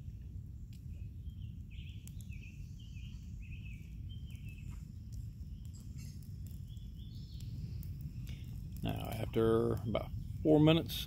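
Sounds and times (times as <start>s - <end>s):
low rumble: 0.0s - 11.0s
songbird chirping: 0.6s - 10.7s.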